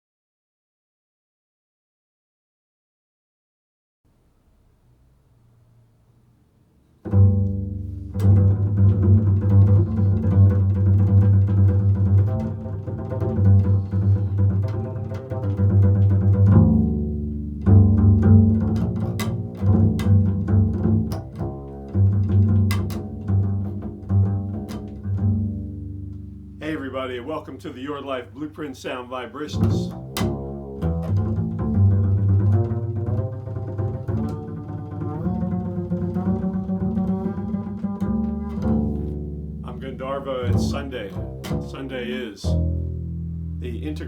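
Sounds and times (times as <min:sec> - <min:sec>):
double bass plucked: 0:06.8 - 0:44.0.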